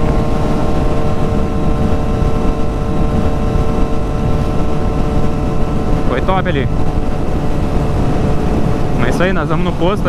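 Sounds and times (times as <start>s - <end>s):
motorcycle engine cruising: 0.0s - 10.0s
wind rumbling on microphone: 0.0s - 10.0s.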